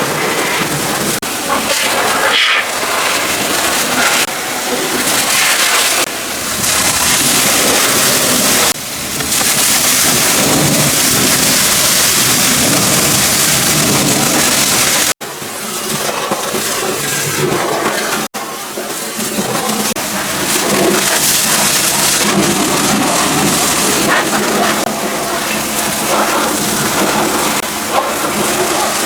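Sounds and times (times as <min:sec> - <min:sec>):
pressure washer spraying: 0:00.0 - 0:29.0.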